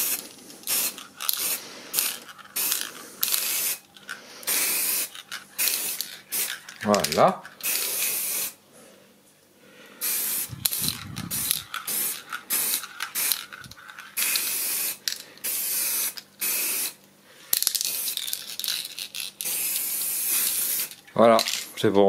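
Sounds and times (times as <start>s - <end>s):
spray paint can spraying: 0.0s - 8.6s, 10.0s - 17.0s, 17.6s - 21.6s.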